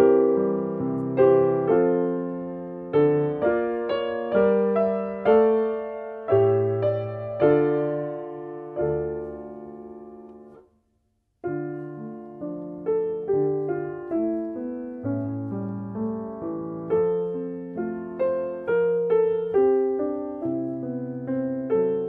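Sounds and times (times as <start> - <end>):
slow solo piano: 0.0 - 10.7, 11.4 - 22.0.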